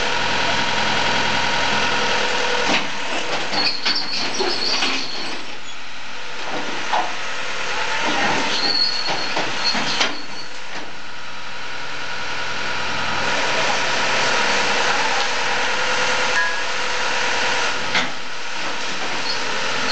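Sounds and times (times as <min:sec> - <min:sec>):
heavy machine engine running: 0:00.0 - 0:19.9.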